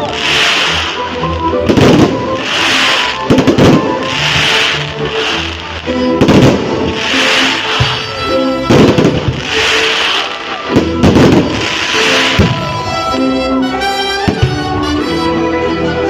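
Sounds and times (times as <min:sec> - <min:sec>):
fireworks bangs and crackle: 0:00.0 - 0:15.2
background music: 0:00.0 - 0:16.0.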